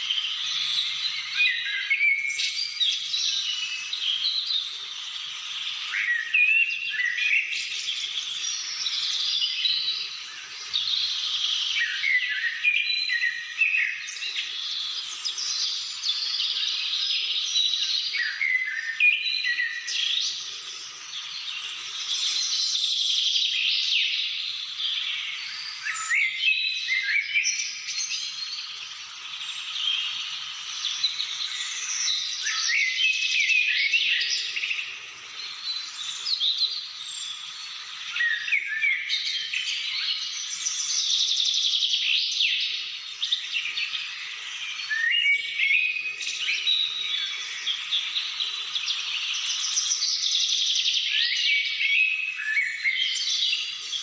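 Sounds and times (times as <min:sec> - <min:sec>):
dense bird chorus: 0:00.0 - 0:54.0.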